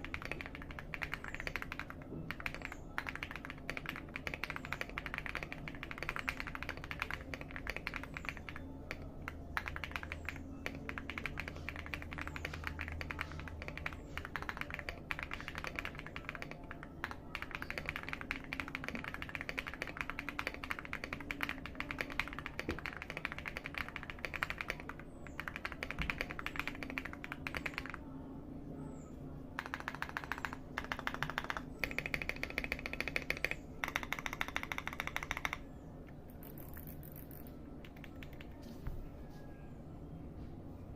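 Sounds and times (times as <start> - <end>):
fast typing on mechanical keyboard: 0.0 - 28.0, 29.6 - 35.7, 36.3 - 38.7.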